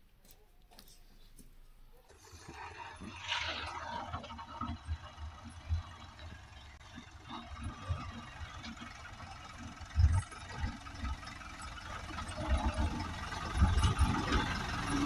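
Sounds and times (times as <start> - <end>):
tractor diesel engine running: 0.0 - 15.0
plough blade pushing through snow: 2.0 - 15.0.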